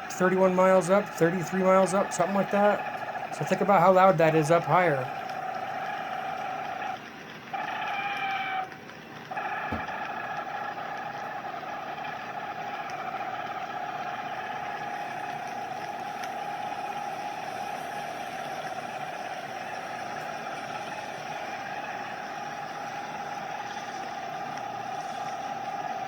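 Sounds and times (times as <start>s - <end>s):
high droning tone in the sky: 0.0s - 26.0s.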